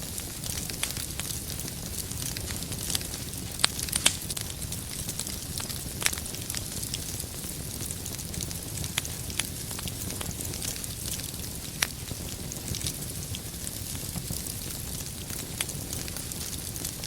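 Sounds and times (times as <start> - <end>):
low rumble of flame: 0.0 - 17.0
wood fire crackling and popping: 0.0 - 17.0.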